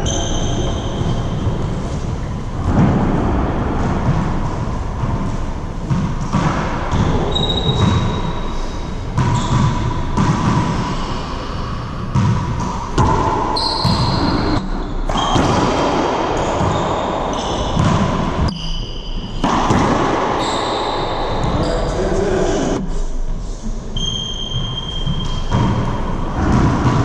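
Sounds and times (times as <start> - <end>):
sneakers squeaking on floor: 0.0 - 2.9, 3.8 - 22.1, 24.0 - 27.0
ball bouncing and struck: 0.0 - 21.6, 24.6 - 27.0.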